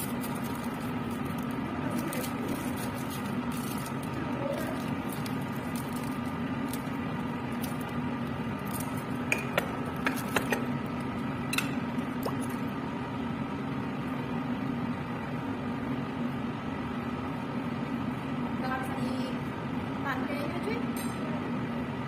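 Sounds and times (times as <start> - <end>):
air flow cabinet blower hum: 0.0 - 22.0.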